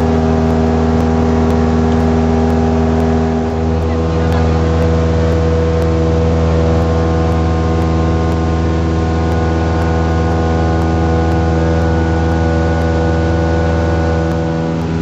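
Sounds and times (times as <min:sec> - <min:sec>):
light aircraft engine drone: 0:00.0 - 0:15.0.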